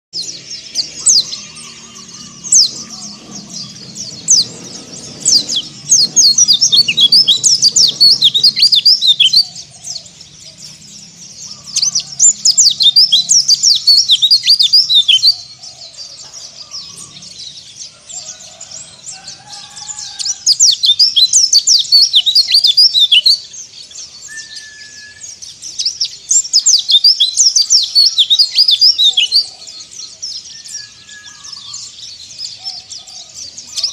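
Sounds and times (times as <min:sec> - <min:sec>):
bird singing high chattering: 0:00.2 - 0:33.9.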